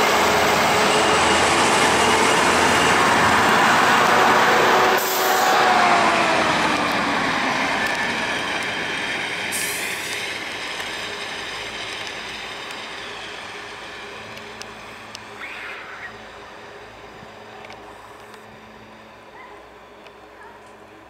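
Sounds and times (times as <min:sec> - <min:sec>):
passenger train rolling on track: 0:00.0 - 0:21.0.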